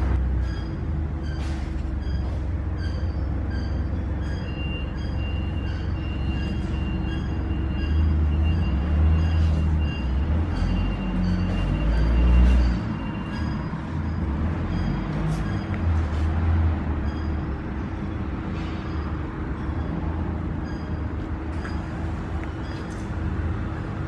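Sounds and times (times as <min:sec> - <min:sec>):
machinery humming and rumbling: 0:00.0 - 0:24.0.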